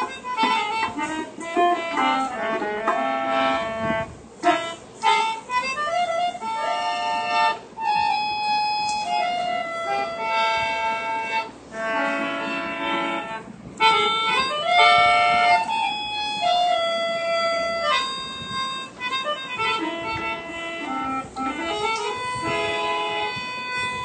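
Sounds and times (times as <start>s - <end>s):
free-reed instrument melody: 0.0s - 24.0s.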